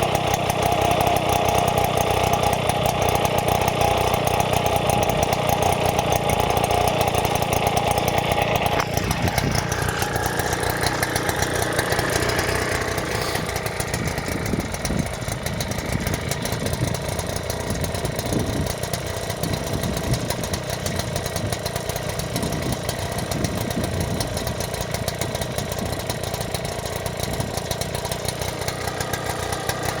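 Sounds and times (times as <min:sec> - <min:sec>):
two-stroke engine idling: 0:00.0 - 0:30.0.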